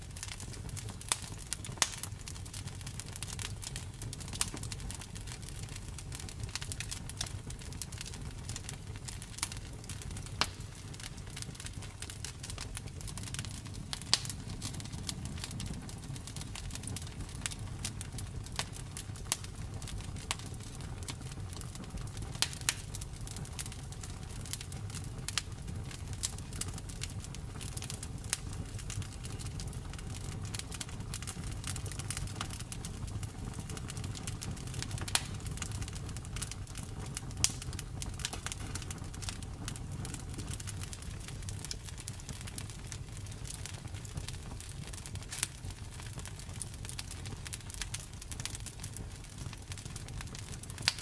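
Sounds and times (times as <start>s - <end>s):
low rumble of flames: 0.0s - 51.0s
wood fire crackling: 0.0s - 51.0s
fire pops: 0.1s - 51.0s.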